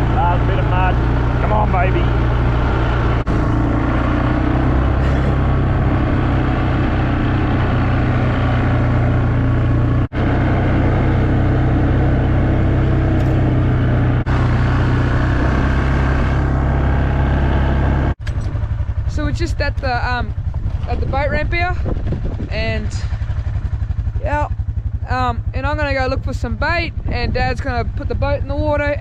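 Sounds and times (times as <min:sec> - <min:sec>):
road and body noise: 0:00.0 - 0:27.4
vehicle engine driving: 0:00.0 - 0:29.0.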